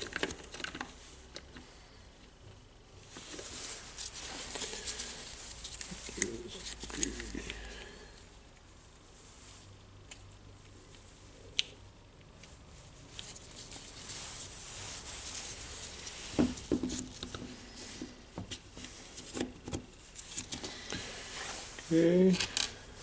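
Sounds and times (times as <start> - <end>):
rustling: 0.0 - 23.0.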